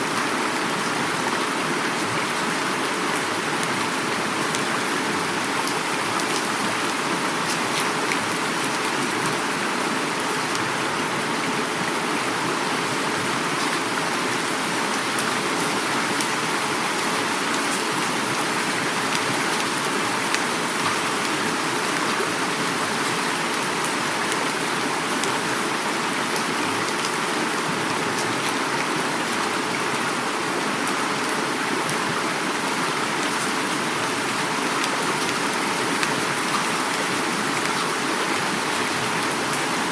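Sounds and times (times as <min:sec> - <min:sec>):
flowing river water: 0:00.0 - 0:39.9
heavy rain: 0:00.0 - 0:39.9.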